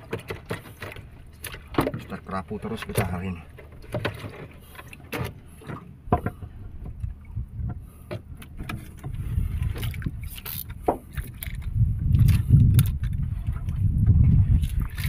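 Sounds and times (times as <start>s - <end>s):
fishing tackle clicks and knocks: 0.0s - 13.8s
wind and water rumble: 0.0s - 15.0s.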